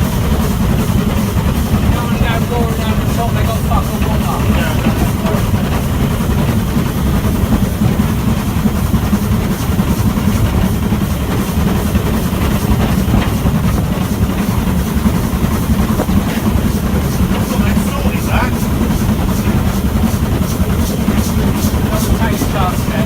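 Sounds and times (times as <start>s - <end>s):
train rumbling along track: 0.0s - 23.0s.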